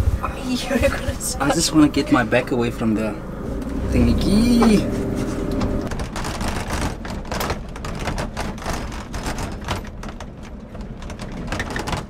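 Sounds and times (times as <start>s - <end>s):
rattling in truck bed: 0.0s - 12.0s
truck low rumble: 0.0s - 12.0s.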